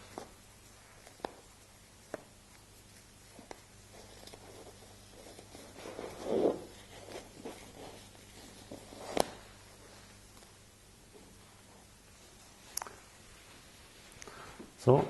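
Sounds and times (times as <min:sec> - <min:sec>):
cloth rustling: 0:00.0 - 0:14.2.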